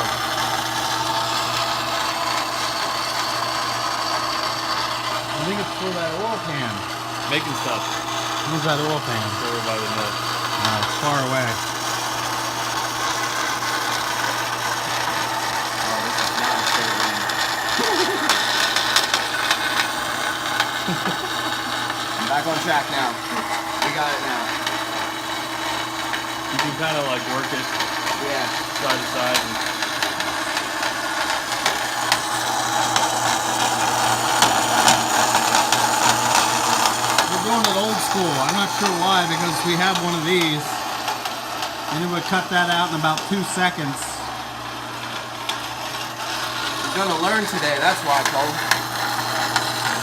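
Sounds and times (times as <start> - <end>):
band saw motor hum: 0.0 - 50.0.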